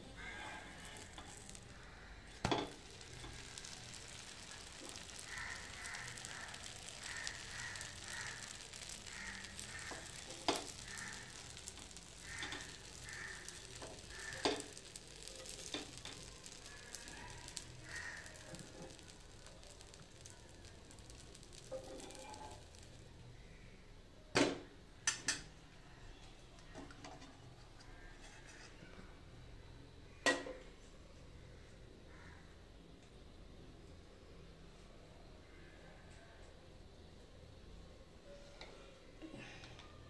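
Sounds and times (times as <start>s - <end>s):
batter sizzling on a pan: 0.0s - 29.3s, 34.7s - 40.0s.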